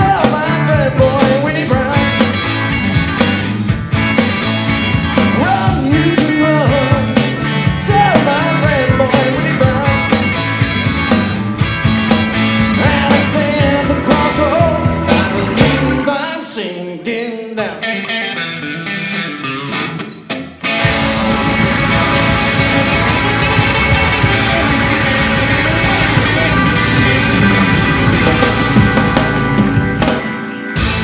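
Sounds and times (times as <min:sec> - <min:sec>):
live rock band playing: 0:00.0 - 0:16.3, 0:17.7 - 0:31.0
electric guitar lead line: 0:00.0 - 0:16.5, 0:17.6 - 0:31.0.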